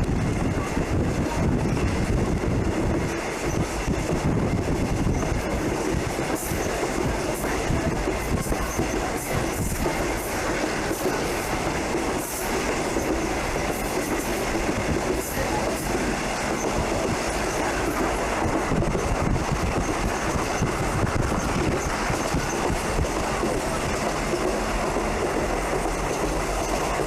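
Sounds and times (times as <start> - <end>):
train wheels rumbling on track: 0.0 - 27.0
wheels clicking over rail joints: 0.8 - 27.0.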